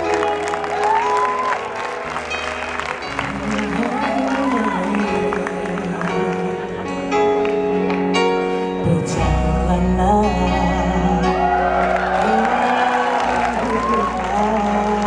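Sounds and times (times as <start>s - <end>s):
bass: 0.0s - 15.0s
keyboard chords: 0.0s - 15.0s.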